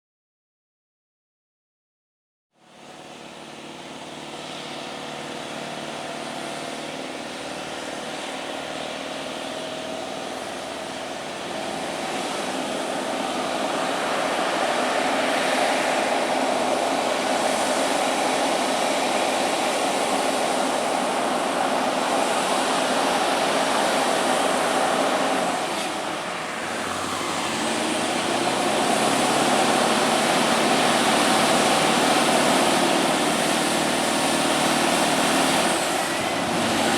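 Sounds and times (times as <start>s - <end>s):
road noise: 2.6s - 36.9s
truck diesel engines running: 2.7s - 36.9s.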